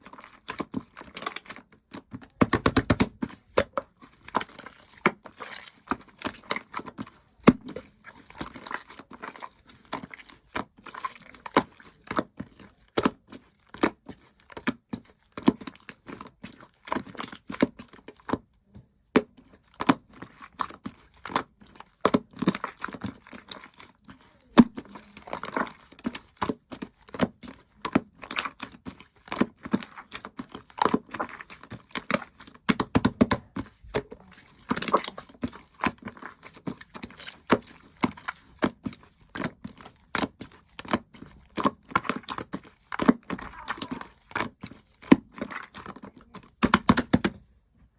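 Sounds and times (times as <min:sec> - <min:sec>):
slime squished by hand: 0:00.0 - 0:47.4.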